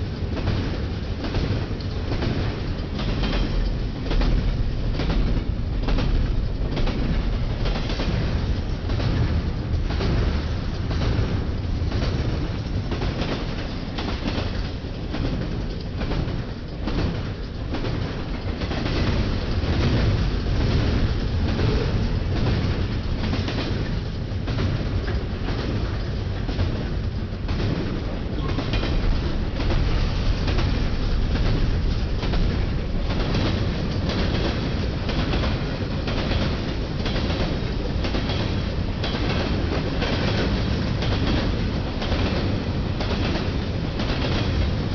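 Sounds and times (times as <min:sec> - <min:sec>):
freight train rumble: 0:00.0 - 0:44.9
train wheels clacking over rail joints: 0:00.0 - 0:44.9.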